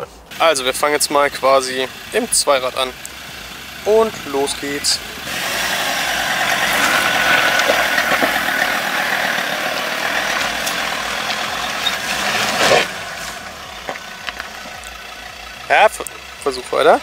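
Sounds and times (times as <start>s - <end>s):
pickup engine under load: 0.0s - 17.0s.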